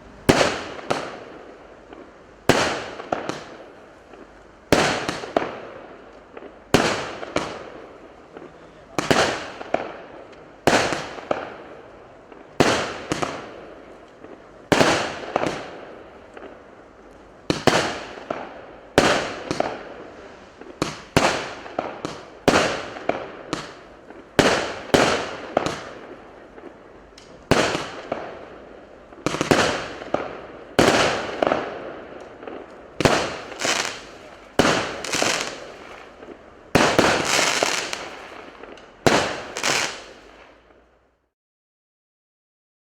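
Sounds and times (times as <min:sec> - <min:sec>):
firework bangs: 0:00.0 - 0:16.7, 0:17.4 - 0:40.9.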